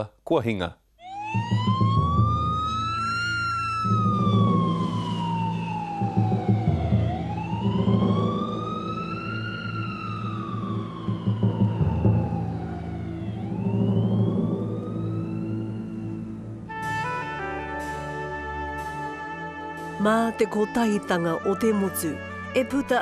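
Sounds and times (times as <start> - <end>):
siren wailing: 1.0 - 23.0.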